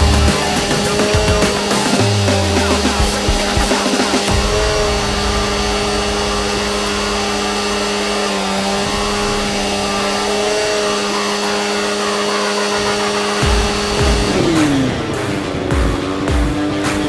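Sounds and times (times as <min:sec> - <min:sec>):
engine-driven welder running: 0:00.0 - 0:16.8.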